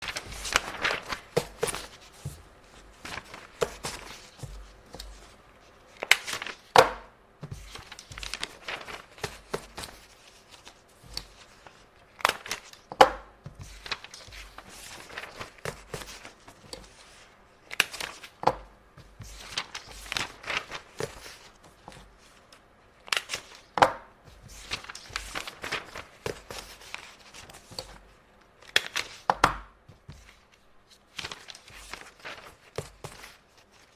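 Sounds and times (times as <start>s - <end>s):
paper rustling and crinkling: 0.0s - 33.9s.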